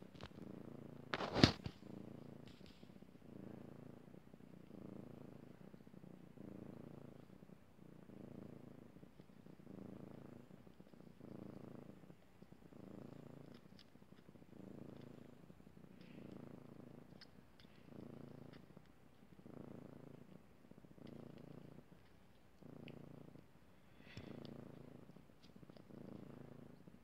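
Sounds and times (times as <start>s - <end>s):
cat purring softly: 0.0s - 27.0s.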